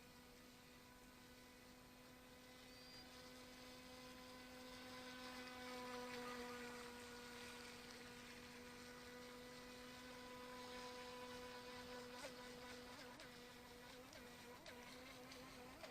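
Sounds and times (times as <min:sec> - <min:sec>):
electric motor whine: 0:00.0 - 0:15.9.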